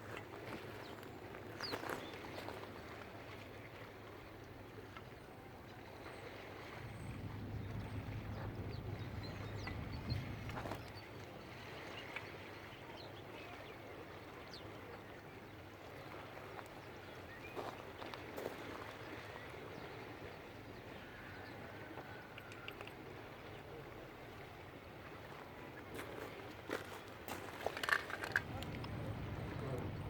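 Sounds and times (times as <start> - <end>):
outdoor background noise by water: 0.0 - 30.0.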